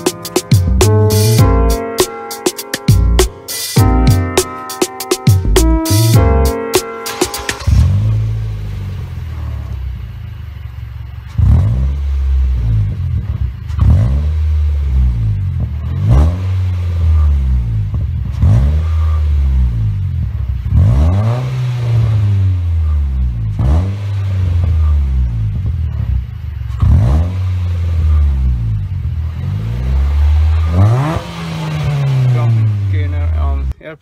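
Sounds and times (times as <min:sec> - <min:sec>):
car engine idling and revving: 0:00.0 - 0:04.4, 0:05.3 - 0:33.8.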